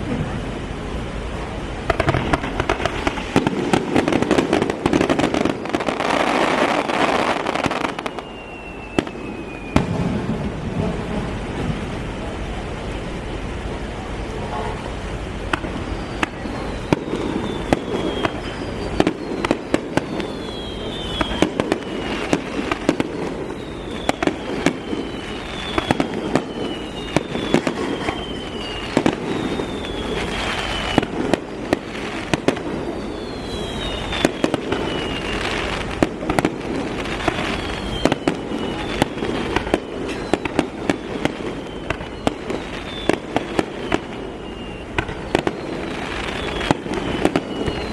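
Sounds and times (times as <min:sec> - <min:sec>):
firework shells bursting: 0:01.8 - 0:11.9, 0:15.4 - 0:47.9
firework whistles falling in pitch: 0:01.9 - 0:11.9, 0:14.7 - 0:47.9.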